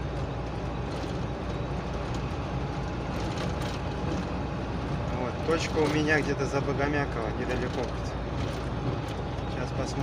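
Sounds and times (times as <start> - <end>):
engine and road noise in cab: 0.0 - 10.0.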